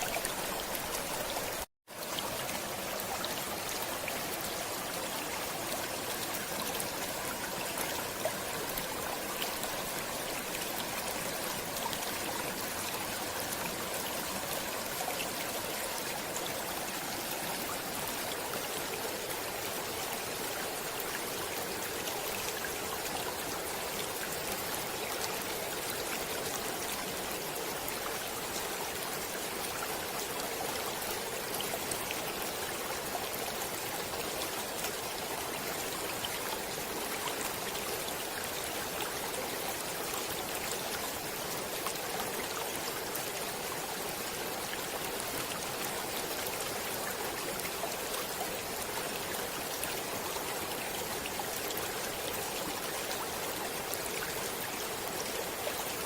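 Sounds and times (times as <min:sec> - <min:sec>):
water flowing in a stream: 0:00.0 - 0:56.0.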